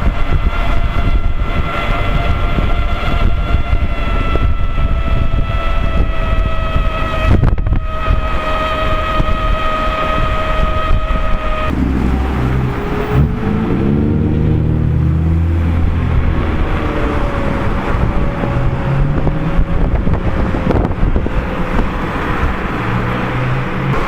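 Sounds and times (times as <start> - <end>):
rising tone: 0.0 - 24.0
tyre humming on pavement: 0.0 - 24.0
wind on microphone: 0.0 - 24.0.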